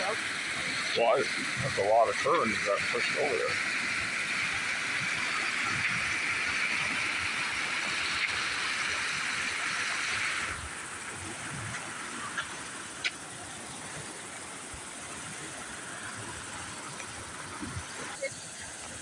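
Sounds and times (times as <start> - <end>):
water pouring over waterfall: 0.0 - 19.0.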